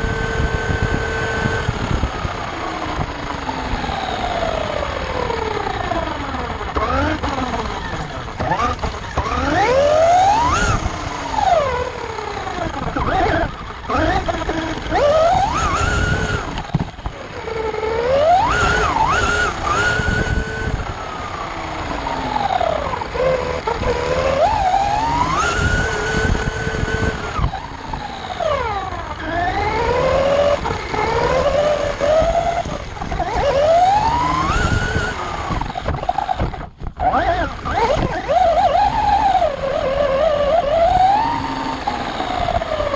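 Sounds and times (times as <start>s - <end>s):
electric motor whining: 0.0s - 42.9s
wind noise: 0.0s - 42.9s.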